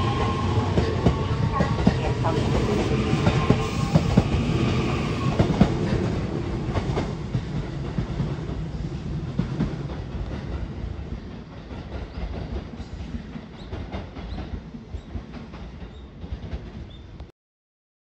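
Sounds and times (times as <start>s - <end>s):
train rumble: 0.0s - 17.2s
train wheels clicking over joints: 0.1s - 17.0s.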